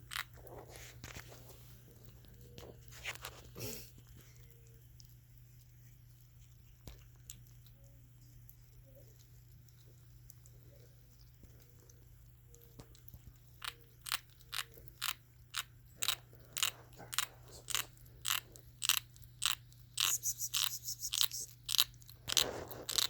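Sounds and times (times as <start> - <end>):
kitten crunching food: 0.0 - 23.0.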